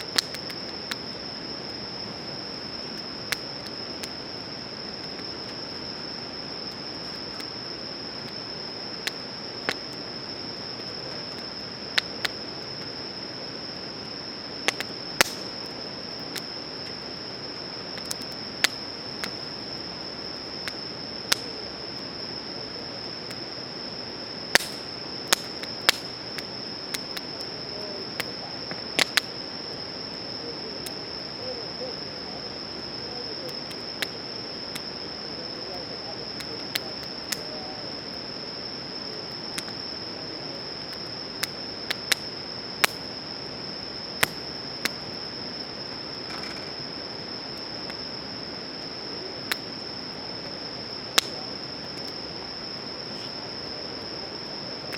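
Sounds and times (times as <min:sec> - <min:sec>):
insects chirping trill: 0:00.0 - 0:54.9
wood campfire crackling: 0:00.0 - 0:54.9.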